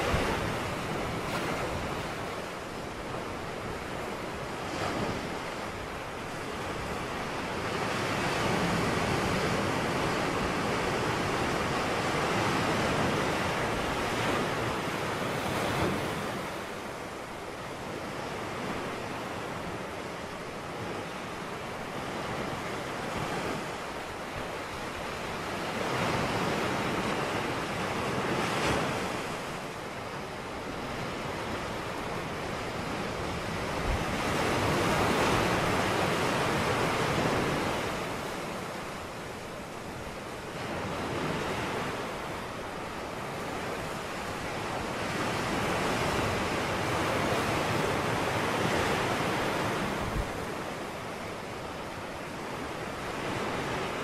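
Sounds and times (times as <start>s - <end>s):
ocean surf breaking on a beach: 0.0s - 54.0s.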